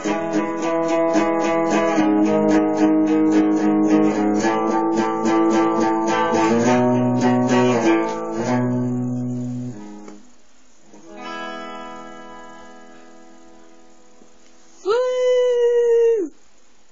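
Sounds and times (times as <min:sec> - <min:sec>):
guitar chords ringing: 0:00.0 - 0:14.4
guitar strumming: 0:00.0 - 0:14.8.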